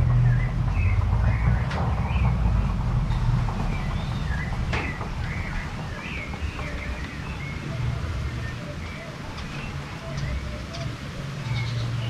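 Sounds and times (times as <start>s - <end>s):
steady low rumble: 0.0s - 11.2s
birds chirping and calling: 0.0s - 12.0s.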